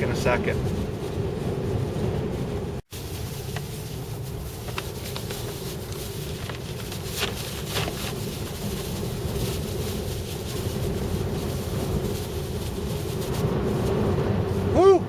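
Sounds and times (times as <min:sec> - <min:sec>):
road and engine rumble: 0:00.0 - 0:15.0
wind noise: 0:00.0 - 0:15.0.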